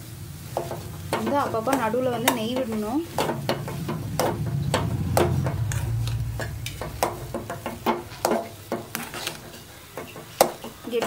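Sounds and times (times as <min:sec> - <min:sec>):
low steady hum: 0:00.0 - 0:11.0
spatula scraping metal pan: 0:00.5 - 0:11.0.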